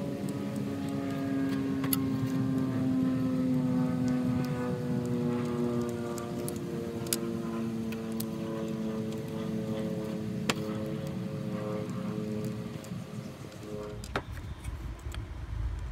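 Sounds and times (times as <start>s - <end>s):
engine droning: 0.0s - 15.9s.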